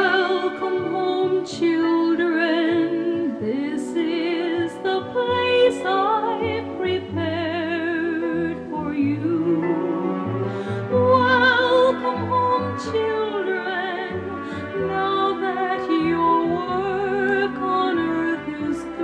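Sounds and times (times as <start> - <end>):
sustained orchestral strings: 0.0 - 19.0
woman singing operatically: 0.0 - 19.0.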